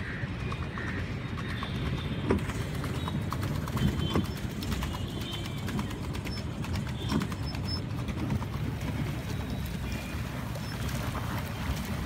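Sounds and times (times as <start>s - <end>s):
low rumble of water and wind: 0.0s - 12.0s
knocks and clicks from boat: 0.4s - 12.0s.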